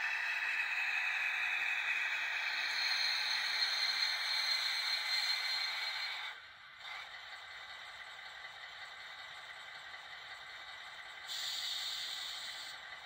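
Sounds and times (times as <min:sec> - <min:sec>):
model diesel locomotive sound: 0:00.0 - 0:13.0.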